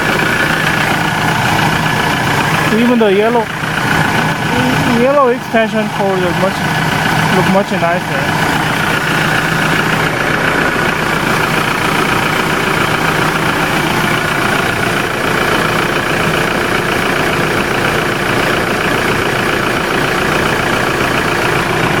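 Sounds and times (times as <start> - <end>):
van engine idling: 0.0 - 22.0.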